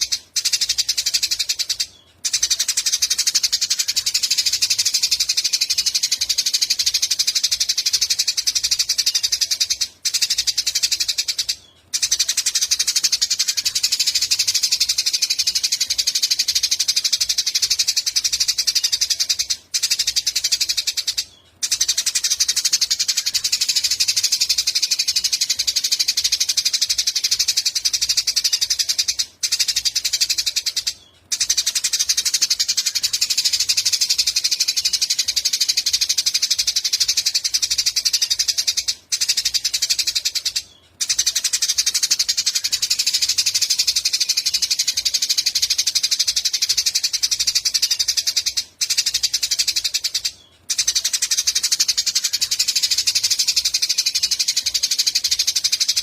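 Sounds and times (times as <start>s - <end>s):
songbird trilling and chattering: 0.0s - 56.0s.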